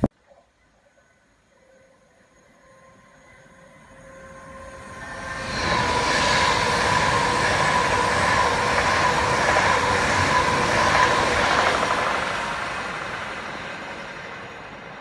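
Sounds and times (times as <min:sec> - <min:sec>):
electric train passing at speed: 0:00.9 - 0:15.0.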